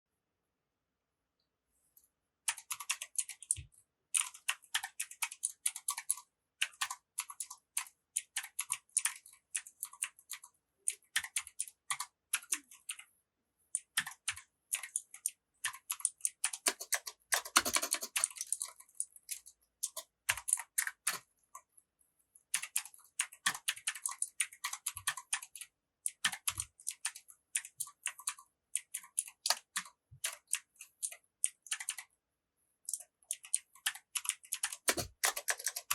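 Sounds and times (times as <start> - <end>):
keyboard typing clicks: 2.5 - 13.1, 13.8 - 21.7, 22.6 - 32.2, 32.8 - 35.9.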